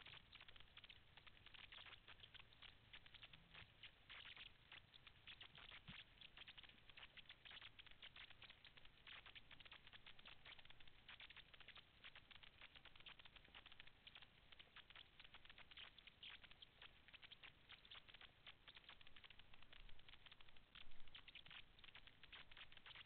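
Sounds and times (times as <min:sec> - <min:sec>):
snapping shrimp crackle underwater: 0:00.0 - 0:23.0.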